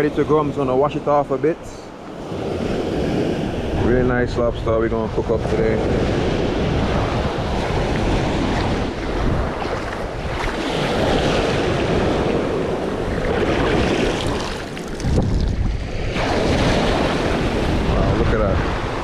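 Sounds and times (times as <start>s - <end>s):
surf washing over beach: 0.0s - 19.0s
wind buffeting microphone: 1.9s - 19.0s.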